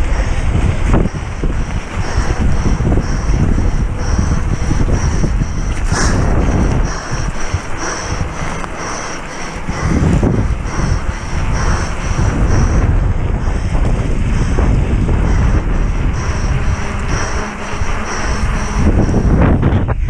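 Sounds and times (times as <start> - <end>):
bike rumble and rattle: 0.0 - 20.0
wind buffeting microphone: 0.0 - 20.0.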